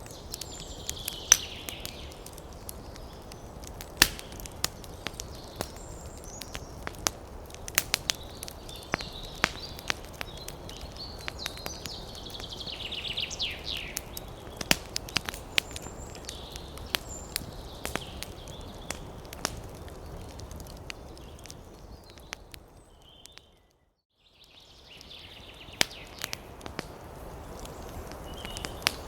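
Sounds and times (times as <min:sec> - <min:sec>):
wood fire crackling: 0:00.0 - 0:23.8, 0:24.4 - 0:29.0.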